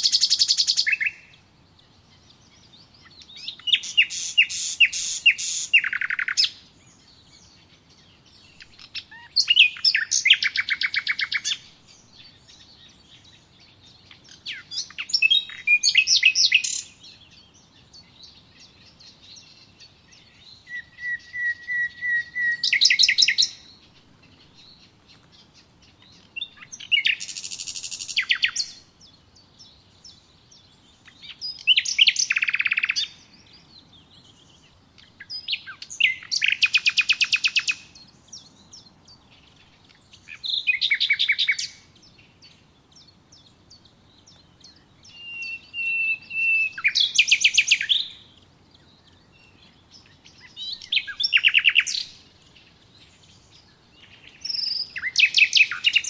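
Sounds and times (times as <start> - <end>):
songbird trilling: 0.0 - 56.0.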